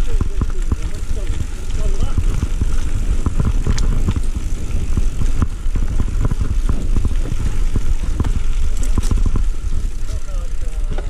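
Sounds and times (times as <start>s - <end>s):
wind buffeting microphone: 0.0s - 10.6s
bike frame rattling: 0.0s - 11.0s.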